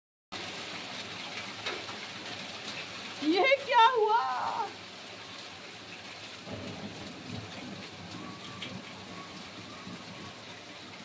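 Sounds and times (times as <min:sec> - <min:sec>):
hail and rain on pavement: 0:00.4 - 0:11.0.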